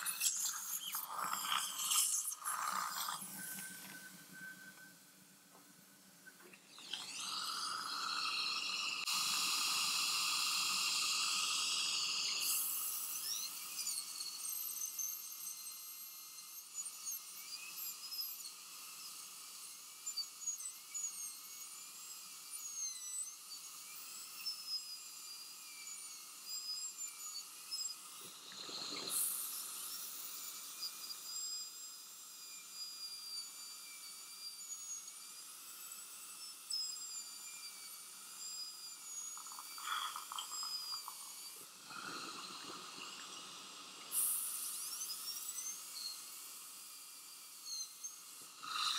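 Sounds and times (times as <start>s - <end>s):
dental drill whining: 0.0s - 48.9s.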